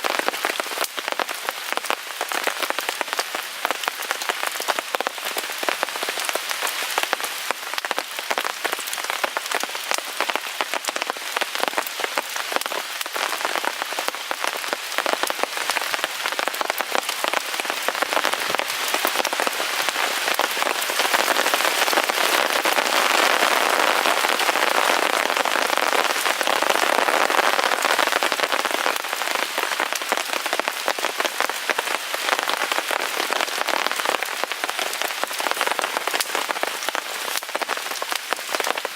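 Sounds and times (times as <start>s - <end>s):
rain pattering on a tarp: 0.0s - 38.9s.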